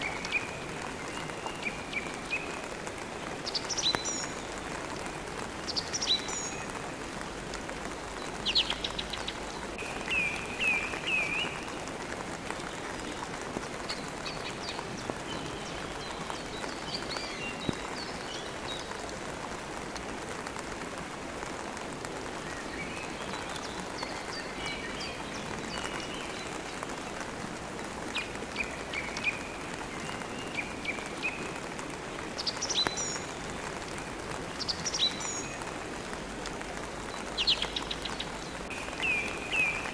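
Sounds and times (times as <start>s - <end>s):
songbirds chirping: 0.0s - 19.9s, 21.3s - 39.9s
steady rain: 0.0s - 39.9s.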